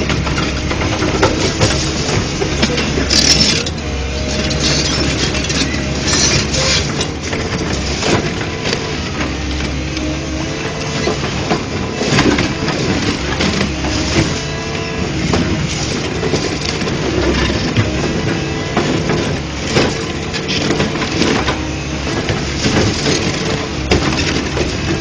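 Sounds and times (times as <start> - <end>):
debris crunching and clattering: 0.0 - 25.0
diesel engine running: 0.0 - 25.0.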